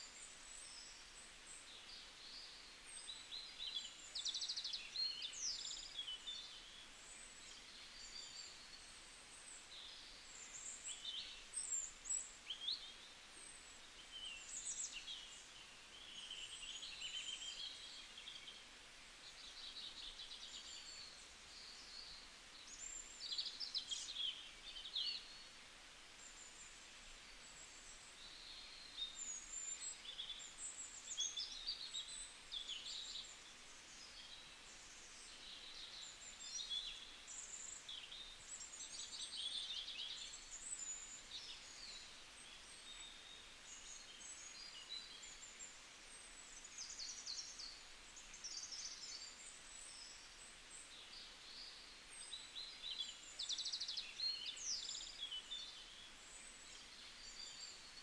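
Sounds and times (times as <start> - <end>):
faint steady hiss: 0.0 - 58.0
small birds chirping: 0.0 - 58.0.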